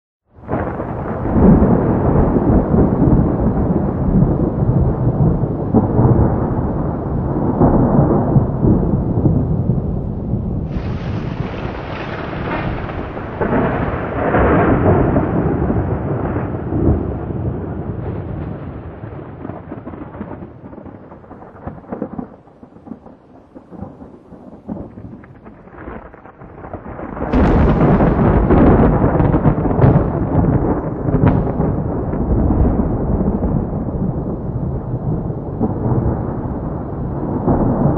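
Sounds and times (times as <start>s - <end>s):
loud thunder clap: 0.4s - 37.9s
thunder rolling: 0.4s - 37.9s.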